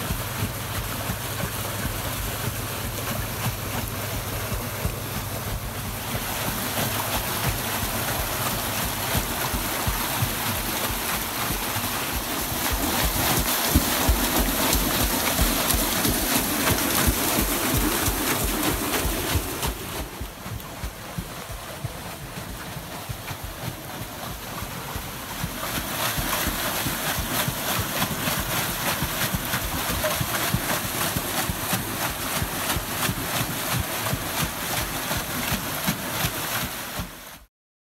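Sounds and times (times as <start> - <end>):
rushing river water: 0.0 - 37.5
waterwheel paddles splashing: 0.0 - 37.5.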